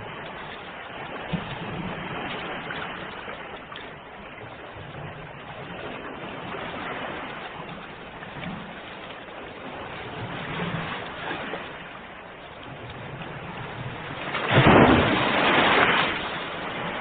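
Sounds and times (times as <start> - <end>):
waves breaking: 0.0 - 17.0.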